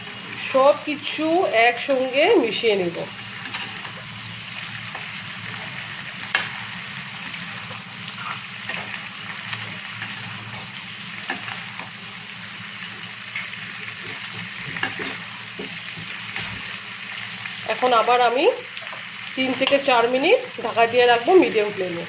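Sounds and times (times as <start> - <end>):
food sizzling in a hot pan: 0.0 - 22.0.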